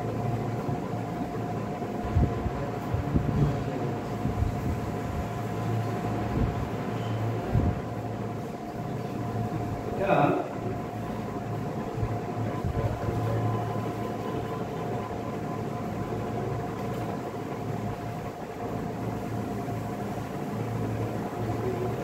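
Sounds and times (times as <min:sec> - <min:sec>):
faint high whine: 0:00.0 - 0:22.0
machine hum: 0:00.0 - 0:22.0.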